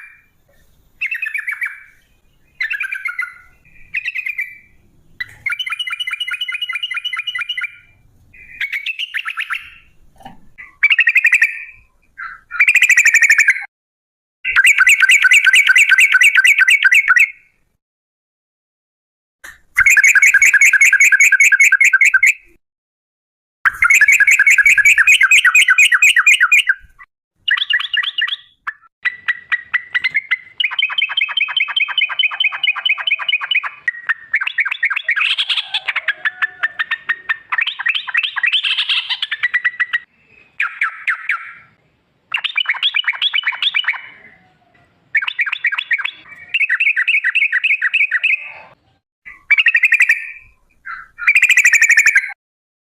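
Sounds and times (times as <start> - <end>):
bird singing rolling trills: 0.0 - 10.0, 14.5 - 17.6, 19.8 - 22.6, 23.7 - 52.4.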